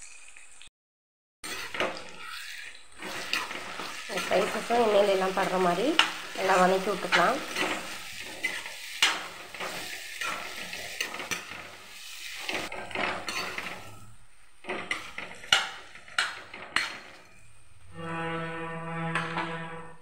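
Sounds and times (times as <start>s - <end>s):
spoon scraping metal frying pan: 1.4s - 18.1s
spice paste sizzling in oil: 1.5s - 17.9s.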